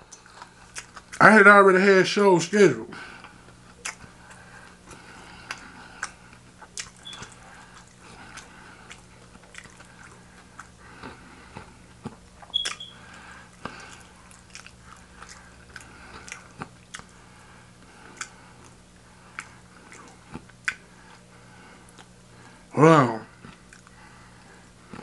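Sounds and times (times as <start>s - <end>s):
chewing with wet mouth clicks: 0.0s - 1.2s, 3.2s - 22.6s, 23.4s - 25.0s
low steady hum: 0.0s - 25.0s.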